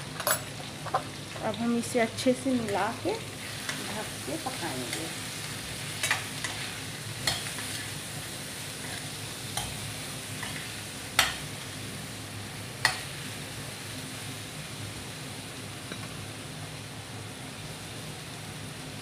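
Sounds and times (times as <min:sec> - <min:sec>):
frying sizzle: 0:00.0 - 0:19.0.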